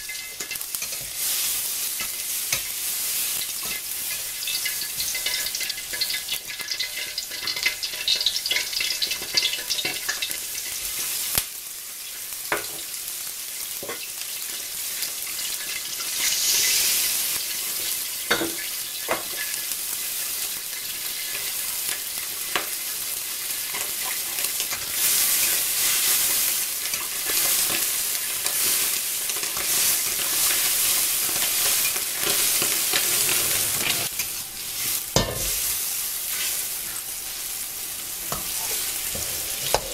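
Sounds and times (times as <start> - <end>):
food sizzling in a wok: 0.0 - 39.9.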